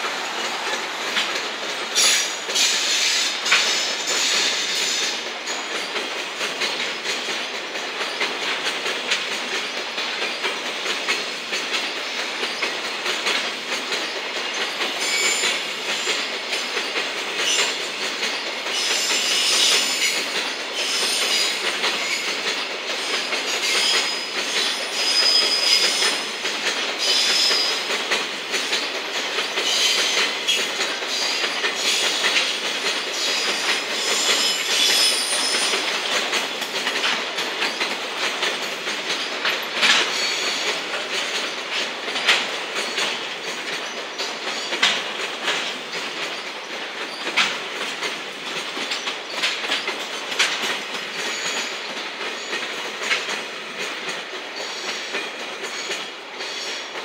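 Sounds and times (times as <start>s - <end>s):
wheels clacking over rail joints: 0.0s - 57.0s.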